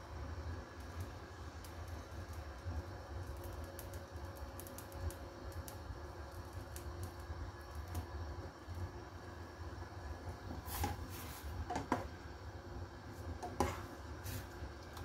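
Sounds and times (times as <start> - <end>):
broth simmering in saucepan: 0.0 - 15.0.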